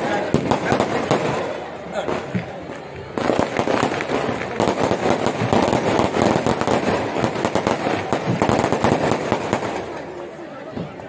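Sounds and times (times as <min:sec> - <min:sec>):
fireworks crackling bangs: 0:00.0 - 0:11.0.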